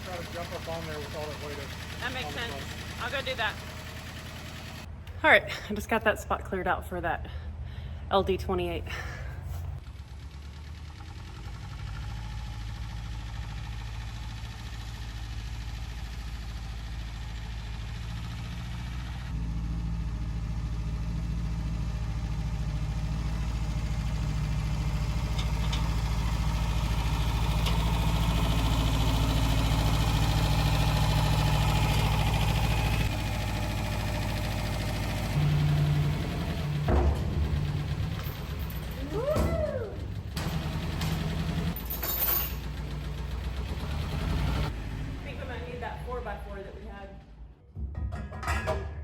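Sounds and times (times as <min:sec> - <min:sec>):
tractor engine running: 0:00.0 - 0:48.5.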